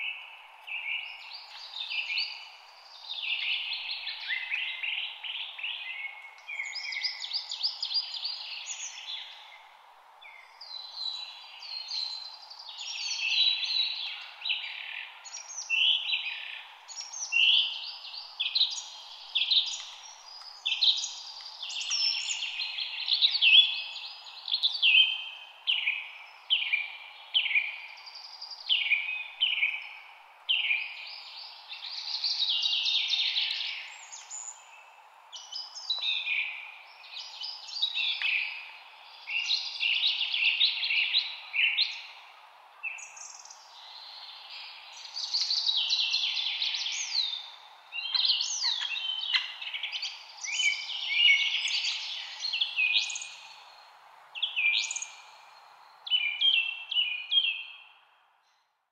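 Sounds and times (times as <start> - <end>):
low background hiss: 0.0 - 58.5
songbirds singing and calling: 0.0 - 58.8.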